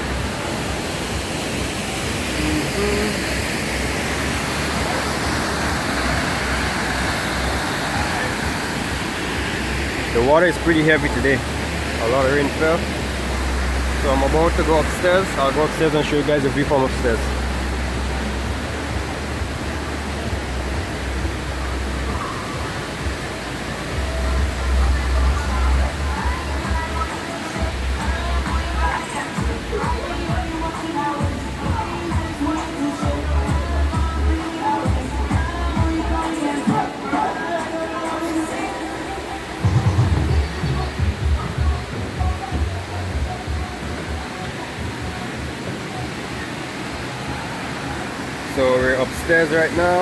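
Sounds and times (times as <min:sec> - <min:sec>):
waterfall pouring: 0:00.0 - 0:34.4, 0:39.4 - 0:50.0.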